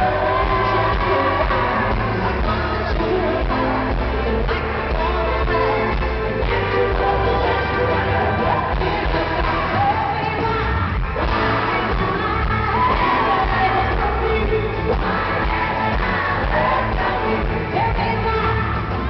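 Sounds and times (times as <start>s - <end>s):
live country band: 0.0s - 19.0s
woman singing into microphone: 0.0s - 19.0s.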